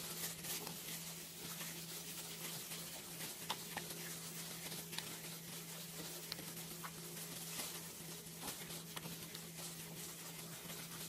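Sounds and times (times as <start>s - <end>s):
wet squishing of kneading: 0.0s - 11.0s.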